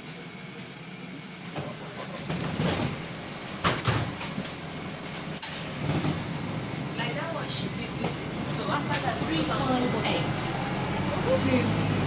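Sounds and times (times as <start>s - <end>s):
bus interior noise: 0.0s - 12.0s.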